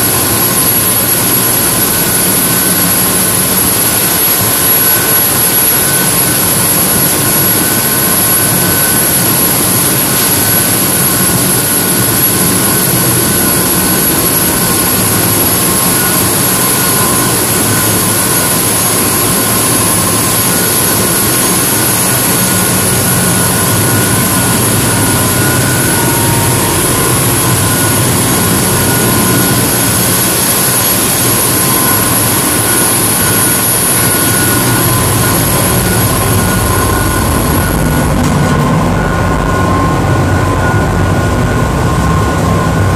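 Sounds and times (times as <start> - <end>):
diesel engines running: 0.0 - 42.9
machinery whining tones: 0.0 - 42.9.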